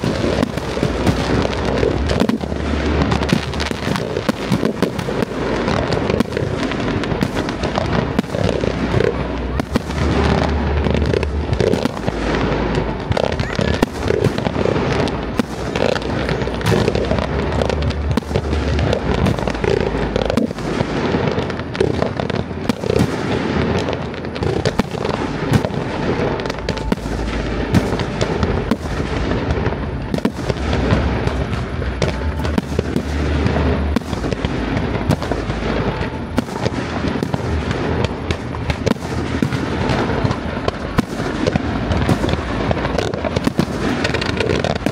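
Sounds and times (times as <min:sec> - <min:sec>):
fireworks bursts and crackling: 0:00.0 - 0:44.9.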